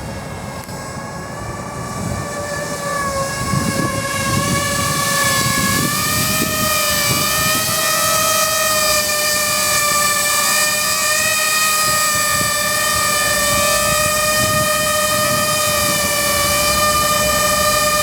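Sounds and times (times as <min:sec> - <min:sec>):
drone propellers whining: 0:00.0 - 0:18.0
wind buffeting microphone: 0:00.0 - 0:18.0.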